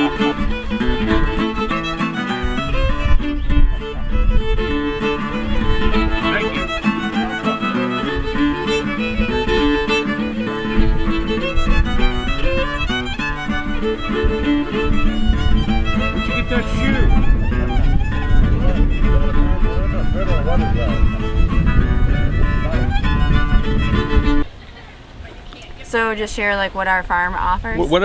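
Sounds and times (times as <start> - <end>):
instrumental music: 0.0 - 24.5.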